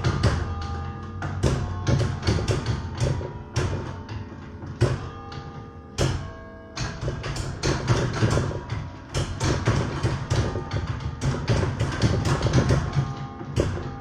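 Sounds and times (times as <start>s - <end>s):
church bells playing a carol melody: 0.0s - 14.0s.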